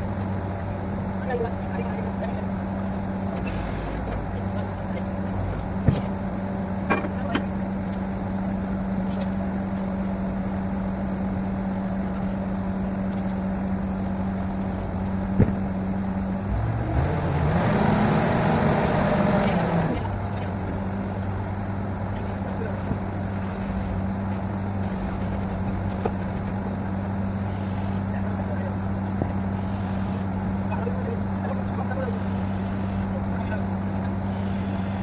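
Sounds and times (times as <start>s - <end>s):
drilling rig engine running: 0.0s - 35.0s.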